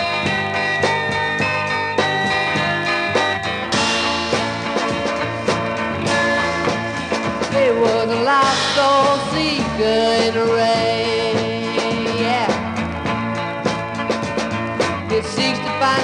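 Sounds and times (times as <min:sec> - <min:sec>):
band chords: 0:00.0 - 0:16.0
steady drum beat: 0:00.0 - 0:16.0
wavering lead guitar line: 0:00.0 - 0:16.0.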